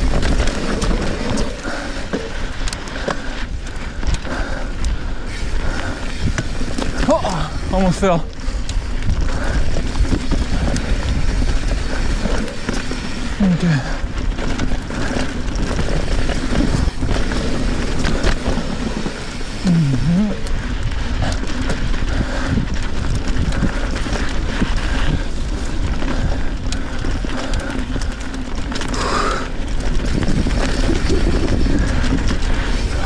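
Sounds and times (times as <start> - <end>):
wind and tyre noise: 0.0 - 33.0.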